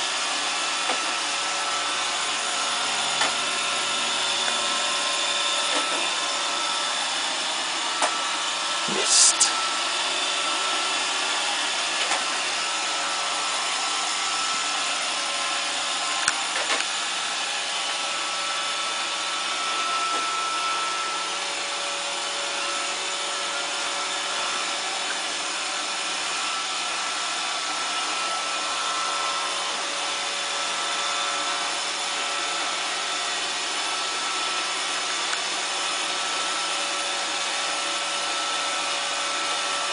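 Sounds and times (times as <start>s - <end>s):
robot vacuum humming: 0.1s - 39.8s.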